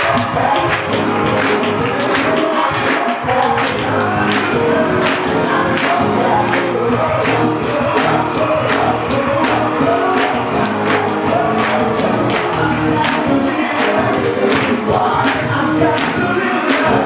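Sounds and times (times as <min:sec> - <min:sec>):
percussion hits: 0:00.0 - 0:17.0
singers with band: 0:00.0 - 0:17.0.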